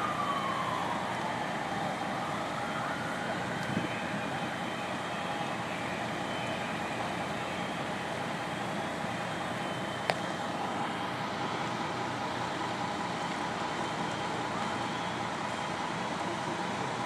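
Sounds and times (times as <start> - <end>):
fire engine ladder running noise: 0.0 - 17.0.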